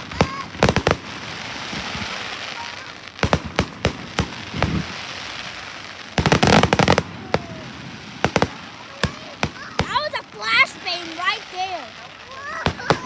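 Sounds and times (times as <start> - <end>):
crackling firework reports: 0.0 - 13.0
firework bangs: 0.0 - 13.0
firework hiss: 0.0 - 13.0.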